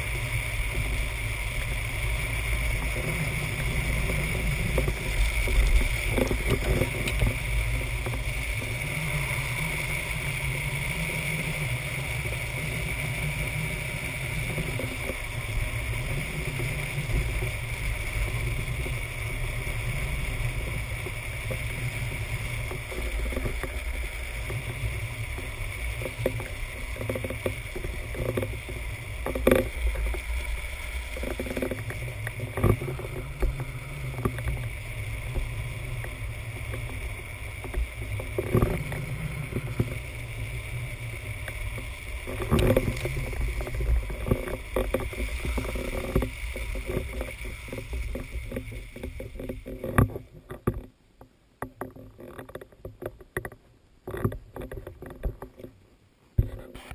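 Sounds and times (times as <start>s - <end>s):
wind noise: 0.0s - 50.8s
wheels rumbling on asphalt: 0.0s - 56.9s.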